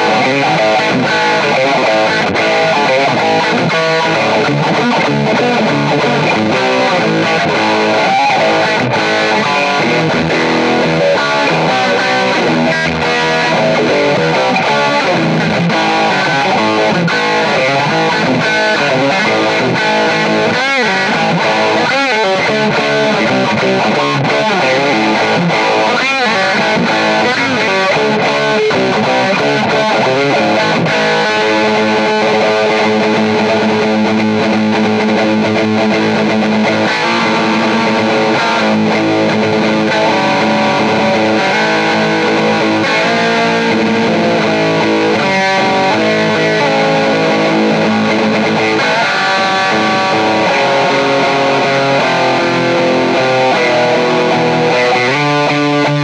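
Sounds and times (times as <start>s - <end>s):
rock music with electric guitar: 0.0s - 56.0s.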